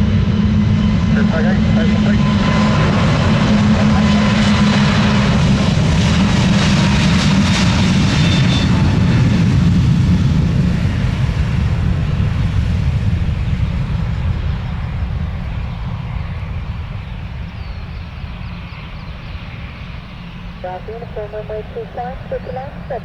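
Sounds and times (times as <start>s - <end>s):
aircraft engines rumbling: 0.0s - 23.0s
high engine whine: 0.0s - 23.0s.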